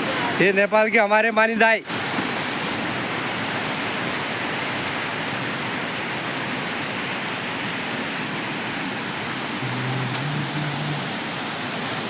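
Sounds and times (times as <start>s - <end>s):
water rushing in heavy rain: 0.0s - 12.0s.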